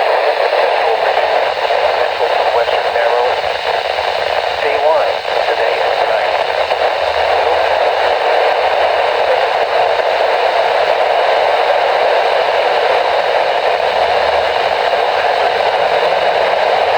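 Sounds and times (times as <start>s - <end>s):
radio static: 0.0s - 16.9s.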